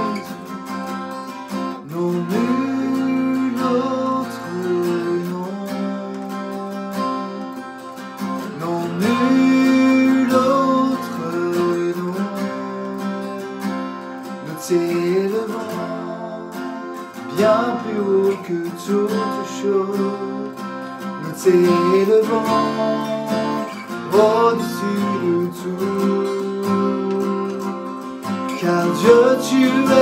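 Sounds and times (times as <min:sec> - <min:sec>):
man singing: 0:00.0 - 0:00.6, 0:01.8 - 0:07.4, 0:08.4 - 0:13.6, 0:14.3 - 0:30.0
acoustic guitar strumming: 0:00.0 - 0:30.0.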